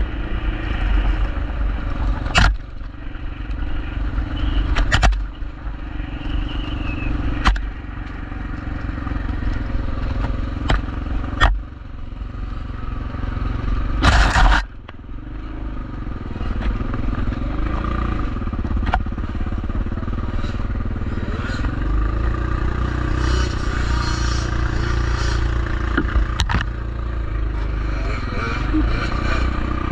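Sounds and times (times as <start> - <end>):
bike rumbling over rough ground: 0.0 - 29.9.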